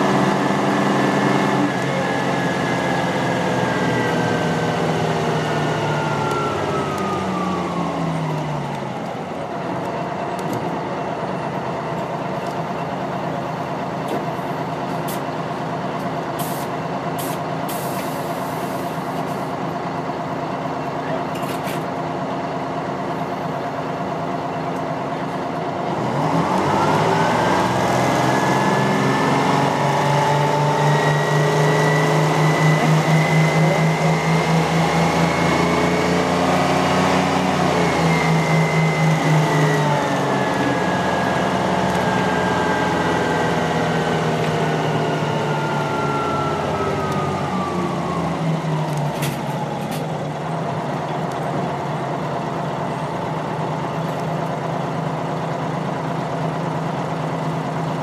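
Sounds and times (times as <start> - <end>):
bus diesel engine revving: 0.0 - 58.0.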